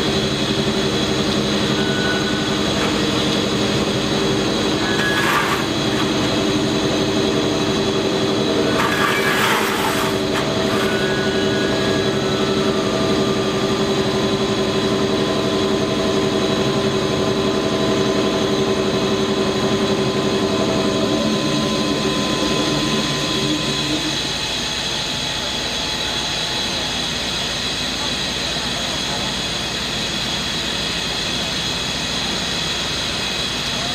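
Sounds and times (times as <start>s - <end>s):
high engine whine: 0.0s - 33.9s
locomotive engine running: 0.0s - 33.9s.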